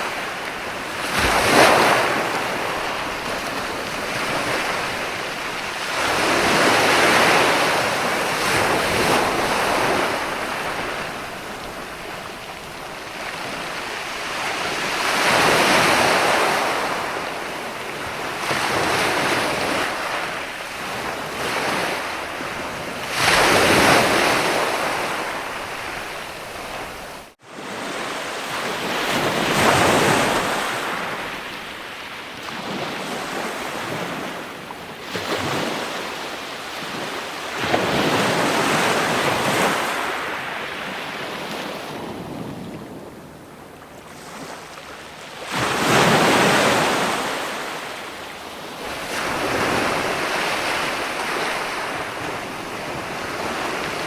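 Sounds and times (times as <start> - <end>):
waves breaking and washing in: 0.0 - 54.0.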